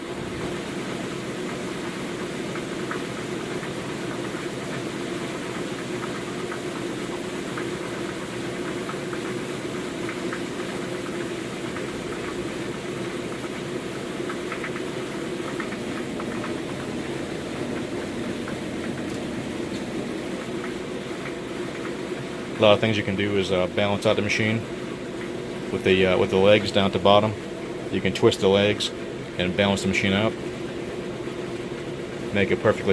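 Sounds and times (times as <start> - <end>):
washing machine spinning: 0.0 - 32.9.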